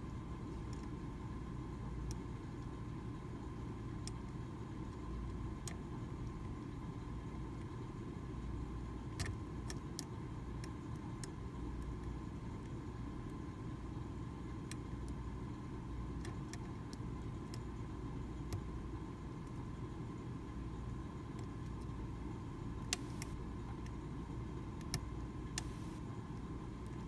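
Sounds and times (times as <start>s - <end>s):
low background rumble: 0.0s - 27.0s.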